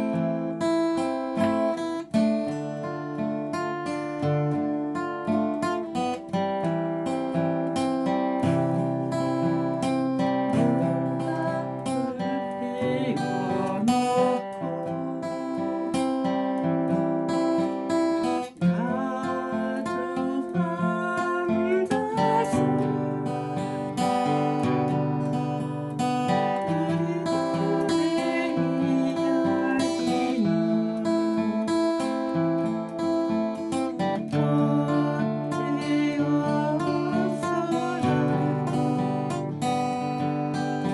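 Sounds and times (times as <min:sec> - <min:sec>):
acoustic guitar picked arpeggios: 0:00.0 - 0:40.9.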